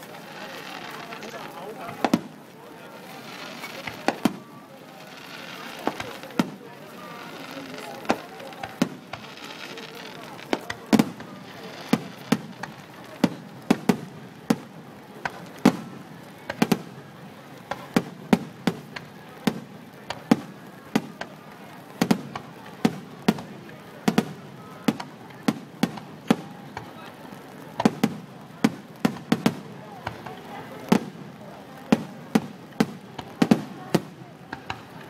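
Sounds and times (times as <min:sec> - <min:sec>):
fireworks bangs and cracks: 0:00.0 - 0:35.0.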